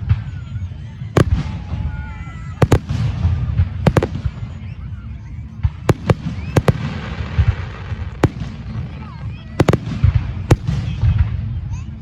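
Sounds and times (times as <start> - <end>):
fireworks bangs: 1.2 - 11.5.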